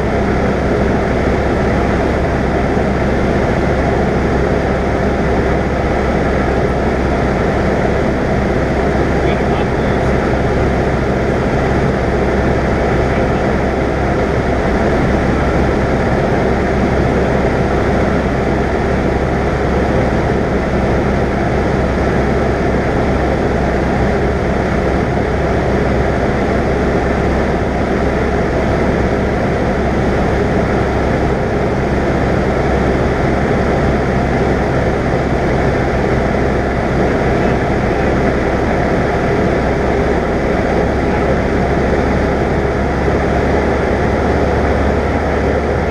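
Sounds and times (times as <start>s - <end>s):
airplane engine and propeller droning: 0.0s - 45.9s.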